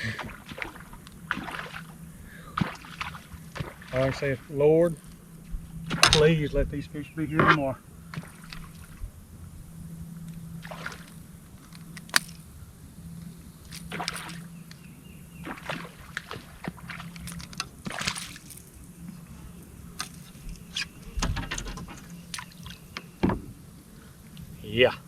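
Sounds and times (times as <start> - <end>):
water splashing against boat: 0.0 - 24.6
steady low hum: 0.0 - 25.0.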